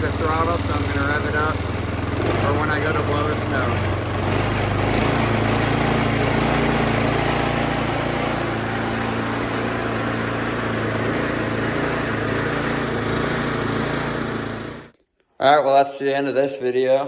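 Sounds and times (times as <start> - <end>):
snowblower engine running: 0.0 - 14.9.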